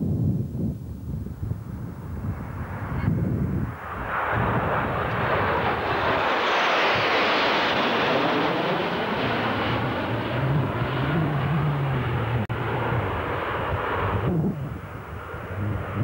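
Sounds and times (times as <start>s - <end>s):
jets flying past overhead: 2.0s - 16.0s.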